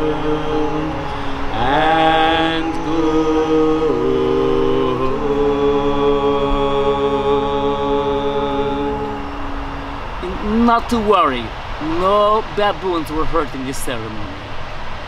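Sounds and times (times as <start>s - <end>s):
voices chanting in harmony: 0.0s - 12.5s.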